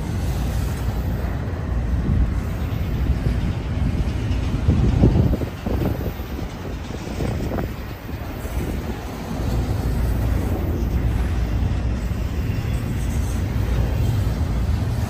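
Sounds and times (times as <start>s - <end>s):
train cars clanking: 0.0s - 15.0s
train wheels rumbling on rail: 0.0s - 15.0s.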